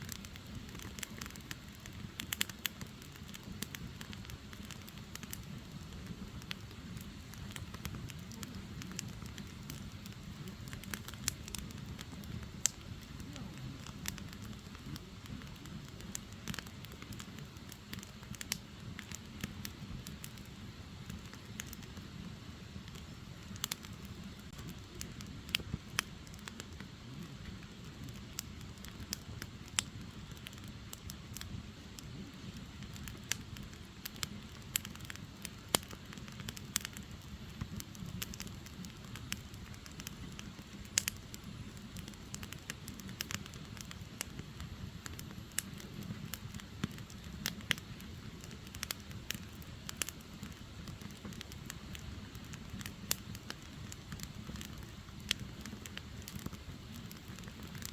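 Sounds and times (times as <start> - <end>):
fire flames rumbling: 0.0 - 57.9
wood crackling and popping: 0.0 - 57.9.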